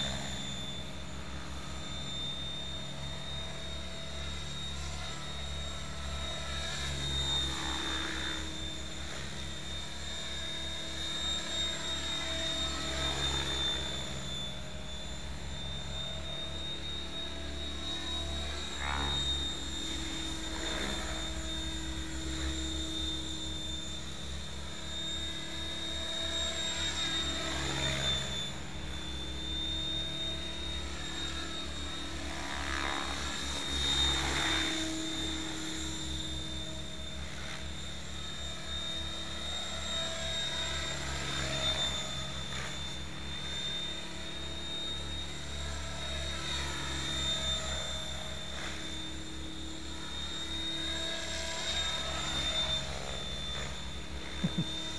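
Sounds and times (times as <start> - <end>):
helicopter rotor whirring: 0.0 - 54.9.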